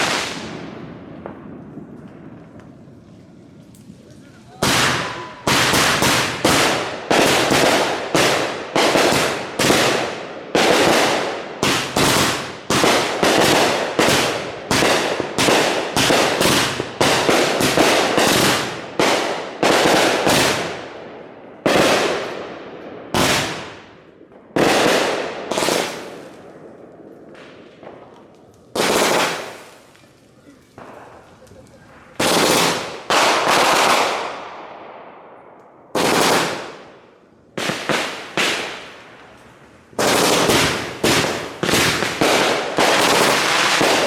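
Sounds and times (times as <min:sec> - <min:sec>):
fireworks booming: 0:00.0 - 0:44.0.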